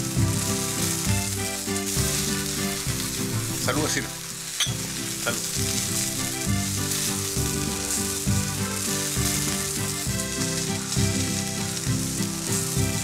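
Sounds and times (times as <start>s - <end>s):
background music: 0.0s - 13.0s
meat sizzling in hot oil: 0.0s - 13.0s.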